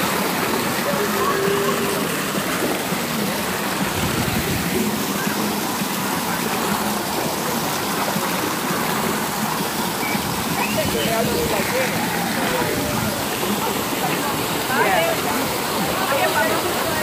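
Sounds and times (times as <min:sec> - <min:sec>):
water spraying on concrete: 0:00.0 - 0:17.0.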